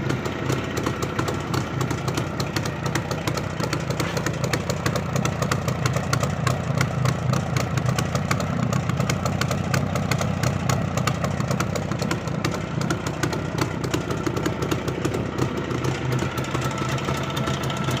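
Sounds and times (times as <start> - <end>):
two-stroke engine idling: 0.0 - 18.0.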